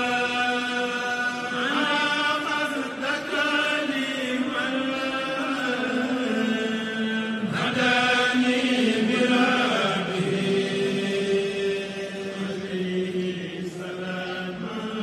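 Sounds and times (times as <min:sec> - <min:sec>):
person chanting in long notes: 0:00.0 - 0:15.0.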